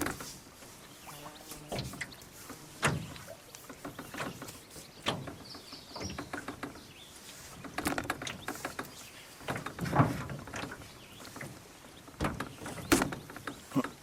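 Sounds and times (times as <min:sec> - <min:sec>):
bird chirp: 0:00.8 - 0:09.9, 0:10.5 - 0:14.0.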